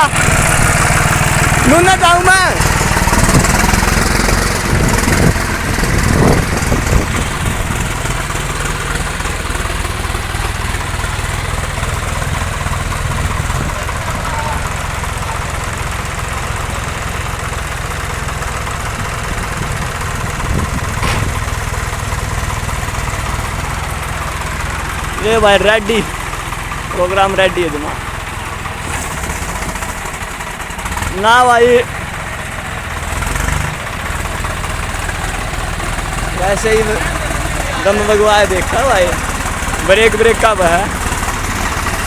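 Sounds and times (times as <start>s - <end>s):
tractor engine idling: 0.0s - 42.0s.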